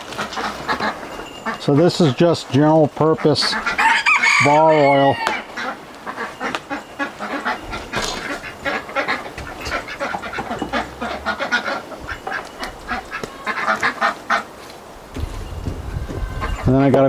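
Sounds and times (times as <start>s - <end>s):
ducks quacking: 0.0s - 14.8s, 16.0s - 17.0s.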